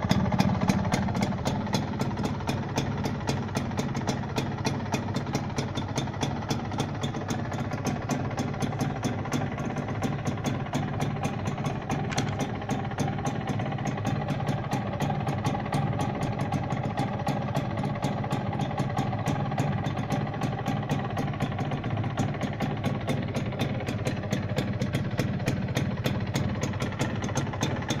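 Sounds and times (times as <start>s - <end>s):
two-stroke engine idling: 0.0s - 28.0s.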